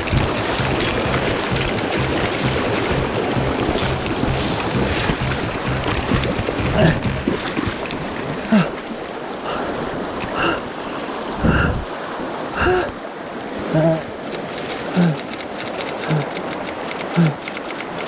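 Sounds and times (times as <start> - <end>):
rushing stream water: 0.0 - 18.0.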